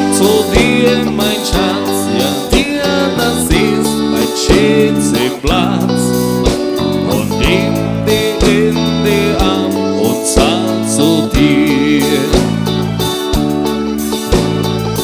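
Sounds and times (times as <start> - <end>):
person singing with vibrato: 0.0 - 12.8
dance band music: 0.0 - 15.0
low drum beat: 0.2 - 13.7.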